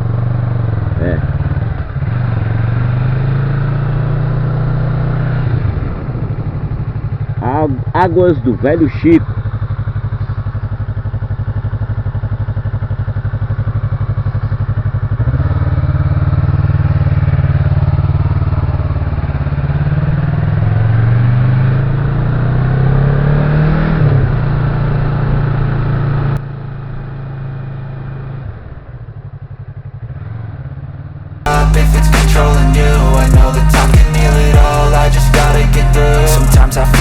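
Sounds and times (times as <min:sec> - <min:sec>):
vehicle engine accelerating: 0:00.0 - 0:11.0, 0:14.8 - 0:37.0.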